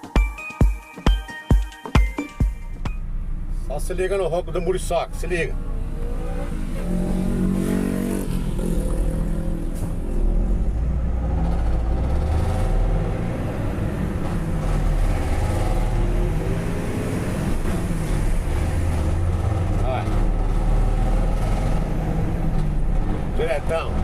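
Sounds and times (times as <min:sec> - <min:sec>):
engine roaring: 0:03.0 - 0:24.0.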